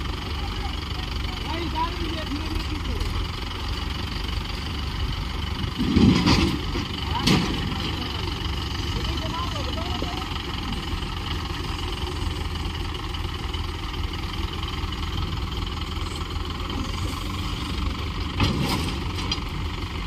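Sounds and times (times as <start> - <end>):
diesel engines running under load: 0.0 - 20.0.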